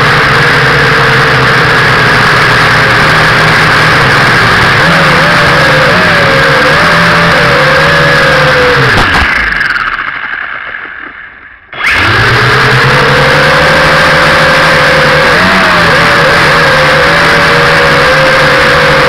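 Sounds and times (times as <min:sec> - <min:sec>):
small vehicle motor running: 0:00.0 - 0:10.9, 0:11.8 - 0:19.0.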